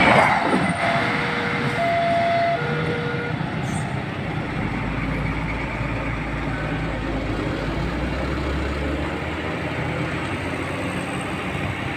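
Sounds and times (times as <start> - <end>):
diesel locomotive engine rumble: 0.0 - 11.9.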